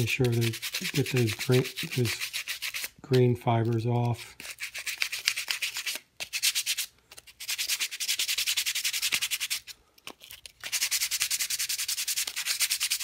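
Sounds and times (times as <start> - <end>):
sandpaper rubbing on wood: 0.0 - 3.0, 4.4 - 9.7, 10.6 - 13.0.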